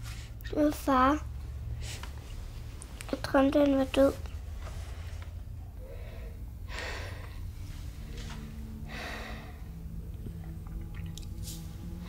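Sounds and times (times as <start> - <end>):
low held music notes: 1.2 - 12.0.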